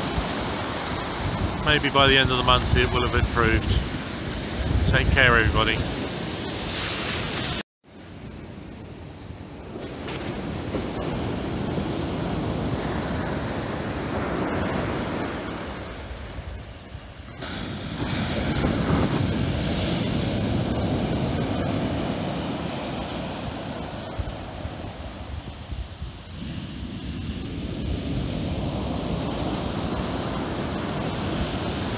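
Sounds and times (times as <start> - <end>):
wind on microphone: 0.0 - 7.6, 8.5 - 31.9
waves breaking on sandy beach: 0.0 - 31.9.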